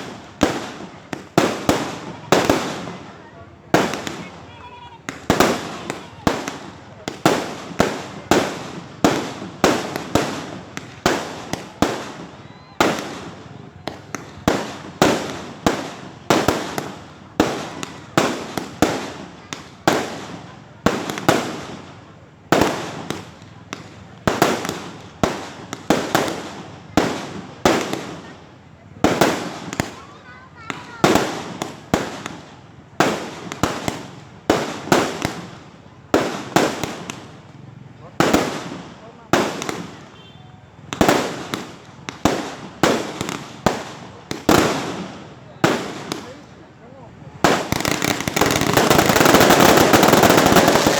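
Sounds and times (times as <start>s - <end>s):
fireworks banging and crackling: 0.0s - 50.9s.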